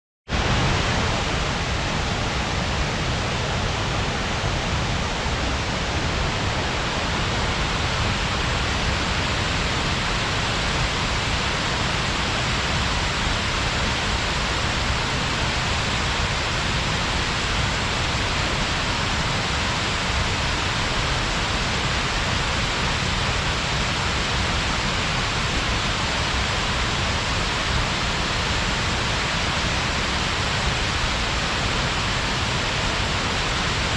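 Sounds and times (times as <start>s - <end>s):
waterfall rushing: 0.3s - 33.9s.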